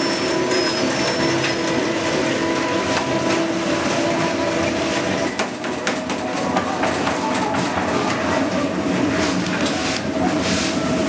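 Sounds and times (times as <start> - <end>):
bakery machinery humming: 0.0 - 11.0.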